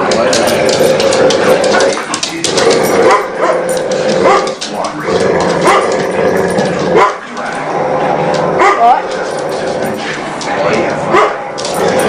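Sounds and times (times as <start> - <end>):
dogs play-growling: 0.0 - 12.0.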